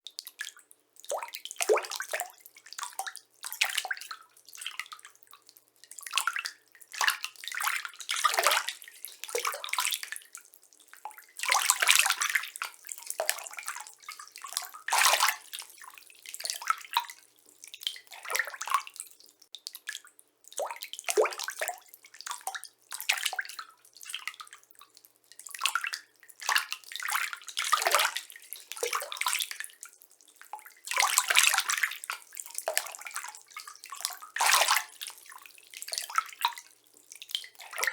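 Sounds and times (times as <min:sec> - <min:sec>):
water splashing softly: 0:00.0 - 0:37.9.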